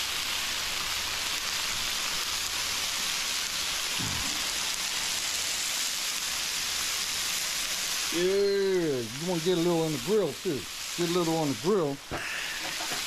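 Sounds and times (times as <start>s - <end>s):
chicken sizzling on a griddle: 0.0s - 13.0s.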